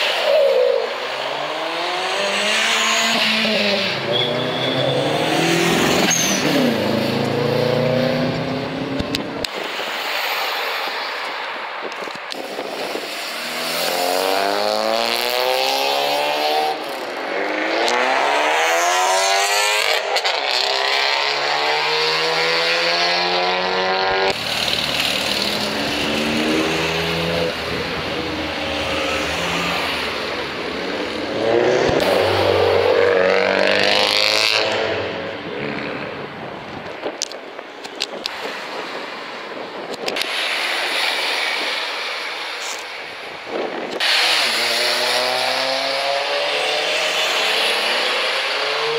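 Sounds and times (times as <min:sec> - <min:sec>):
car engines accelerating: 0:00.0 - 0:11.6, 0:12.4 - 0:37.3, 0:38.0 - 0:48.9.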